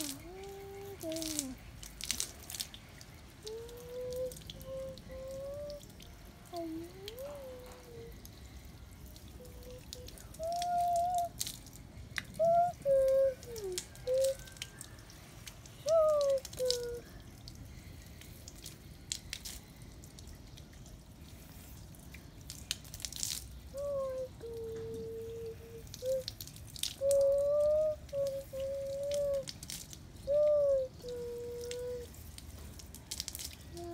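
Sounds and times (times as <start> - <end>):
rainwater dripping on concrete: 0.0 - 33.9.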